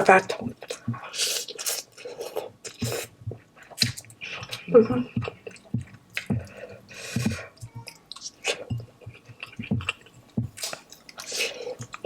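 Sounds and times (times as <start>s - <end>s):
person chewing noodles: 0.5s - 12.0s.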